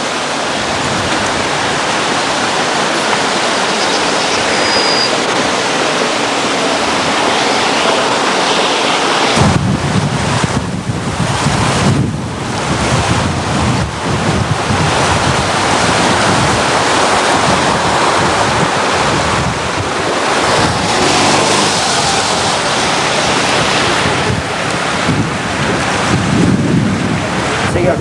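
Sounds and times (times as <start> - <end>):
rushing floodwater: 0.0 - 28.0
wind buffeting microphone: 0.0 - 28.0.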